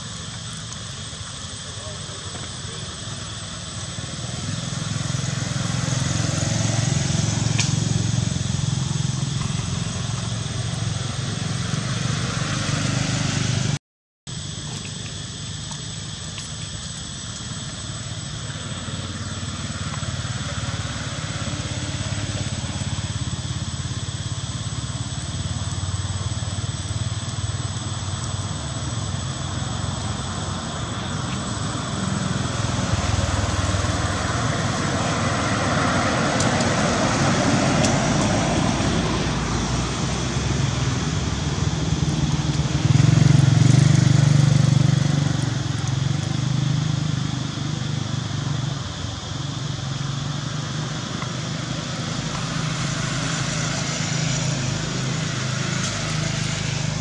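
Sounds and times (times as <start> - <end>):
distant traffic rumble: 0.0 - 57.0.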